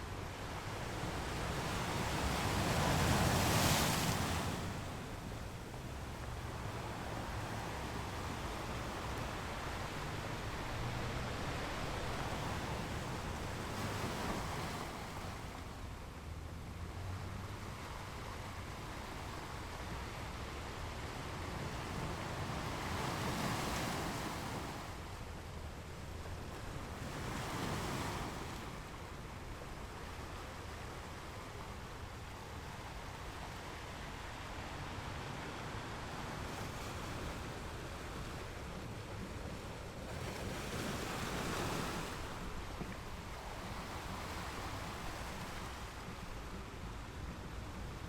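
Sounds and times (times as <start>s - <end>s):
ocean surf washing: 0.0s - 48.0s.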